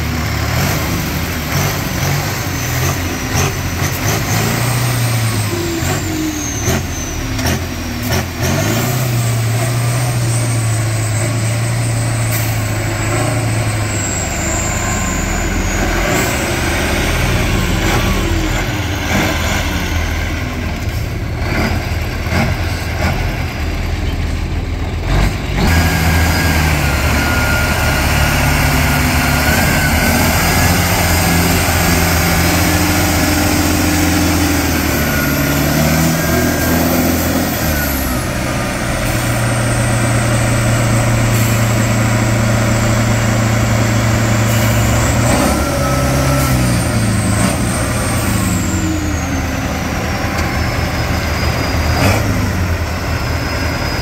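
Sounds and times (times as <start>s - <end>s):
truck engine revving under load: 0.0s - 54.0s.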